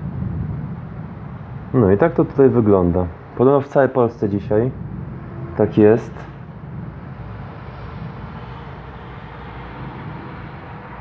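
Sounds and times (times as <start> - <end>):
distant thunder rumbling: 0.0 - 11.0.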